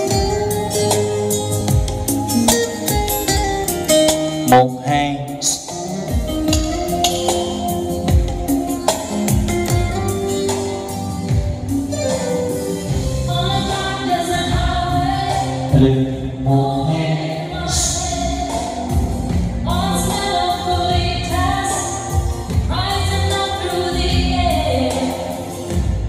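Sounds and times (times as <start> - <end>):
song over pa system: 0.0 - 26.0.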